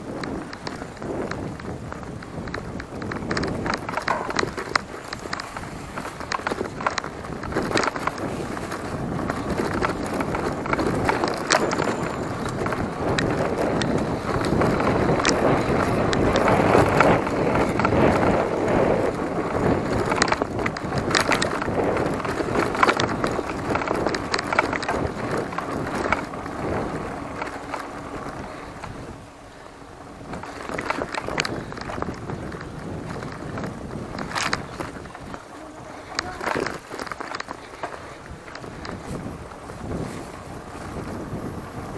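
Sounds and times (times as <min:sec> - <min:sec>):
bike rattles and knocks: 0:00.0 - 0:41.9
bike tyre noise: 0:00.0 - 0:41.9
wind buffeting microphone: 0:00.0 - 0:41.9.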